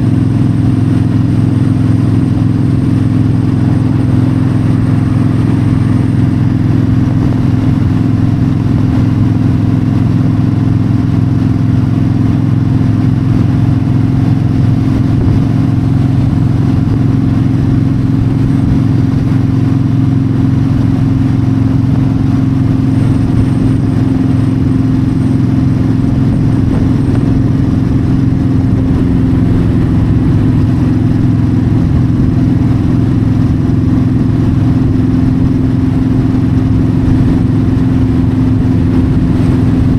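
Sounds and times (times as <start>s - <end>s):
motorcycle engine running steadily: 0.0s - 39.9s
wind noise: 0.0s - 39.9s.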